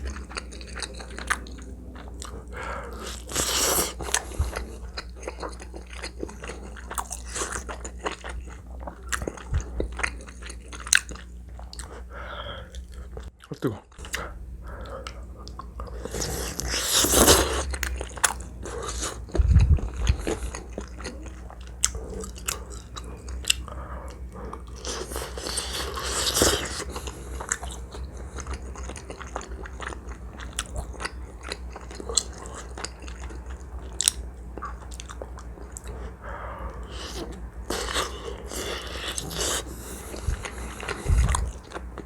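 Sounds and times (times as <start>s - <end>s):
wet chewing and mouth smacks: 0.0s - 12.1s, 12.7s - 42.0s.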